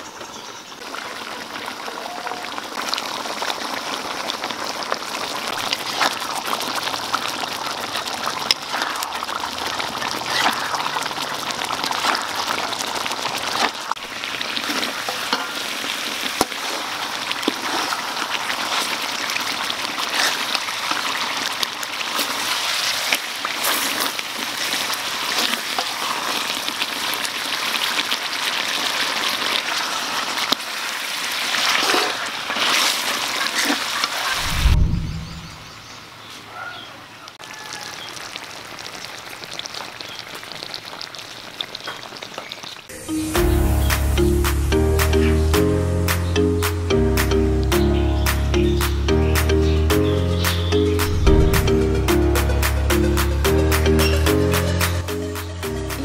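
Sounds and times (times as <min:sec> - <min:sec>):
sauce sizzling and bubbling: 0:00.8 - 0:36.2, 0:37.4 - 0:49.4.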